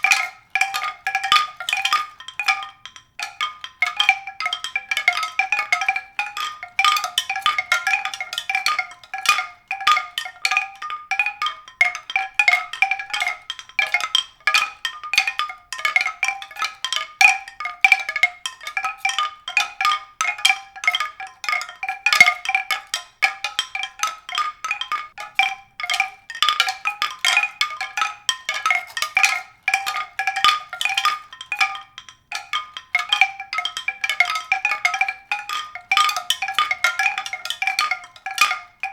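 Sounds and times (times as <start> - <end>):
tuned percussion ringing notes: 0.0 - 38.9.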